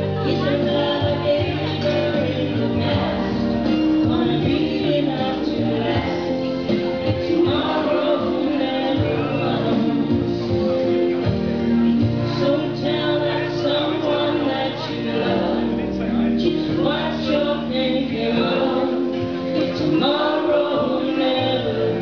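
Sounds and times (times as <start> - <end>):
two women singing: 0.0 - 11.3, 11.9 - 22.0
amplified backing music: 0.0 - 22.0.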